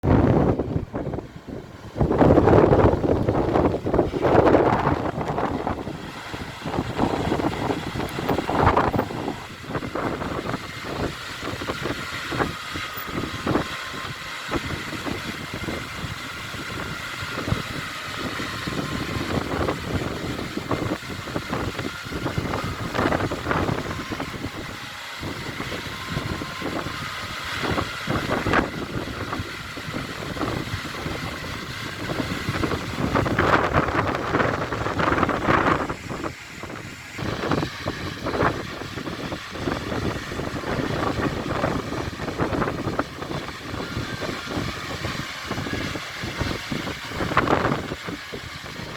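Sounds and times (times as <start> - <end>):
wind buffeting microphone: 0.0 - 48.9
waterfall roaring: 1.6 - 48.9.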